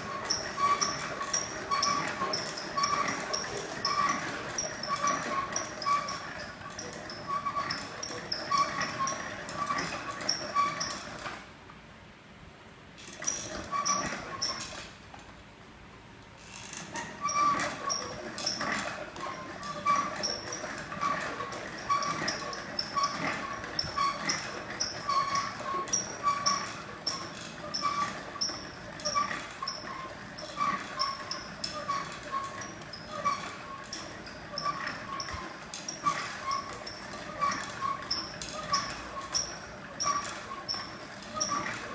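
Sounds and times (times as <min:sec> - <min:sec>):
wooden reeling frame squeaking: 0:00.0 - 0:11.4, 0:13.1 - 0:14.8, 0:16.4 - 0:41.9.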